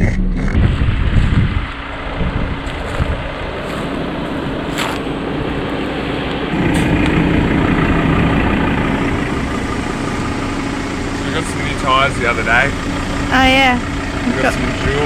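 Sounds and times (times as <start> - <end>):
tyre and road noise: 0.0 - 15.0
vehicle engine running: 0.0 - 15.0.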